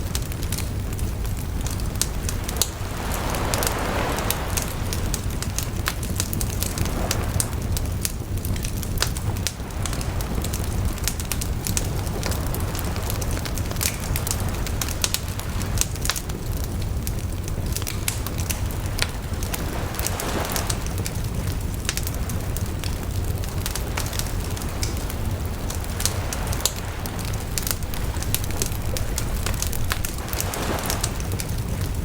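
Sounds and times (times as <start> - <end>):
bonfire crackling and popping: 0.0 - 32.0
low rumble of flames: 0.0 - 32.0.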